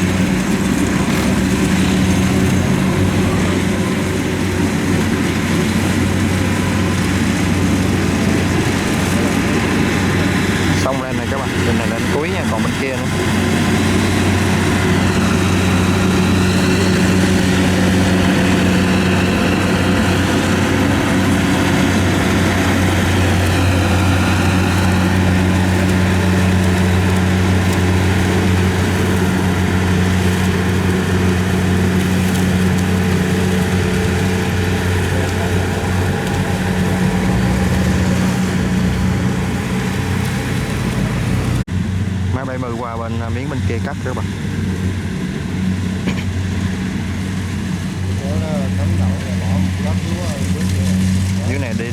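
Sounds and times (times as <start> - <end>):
diesel engine humming: 0.0 - 51.9.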